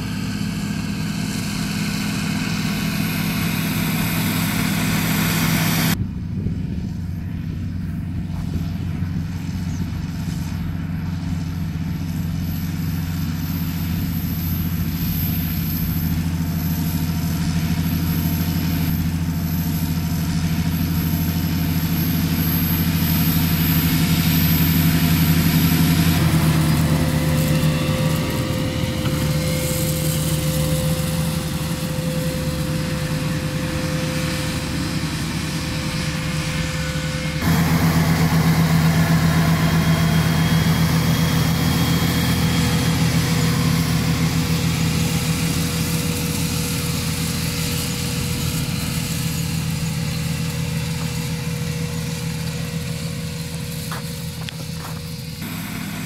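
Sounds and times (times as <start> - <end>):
steady high whine: 0.0 - 56.0
tractor diesel engine running: 0.0 - 56.0.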